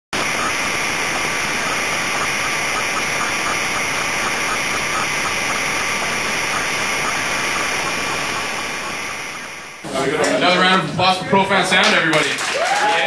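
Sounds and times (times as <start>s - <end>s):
steady static hiss: 0.1s - 11.8s.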